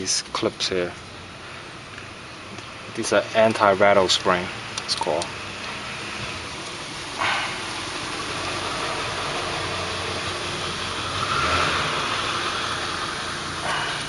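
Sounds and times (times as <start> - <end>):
steady mechanical noise: 0.0 - 14.0.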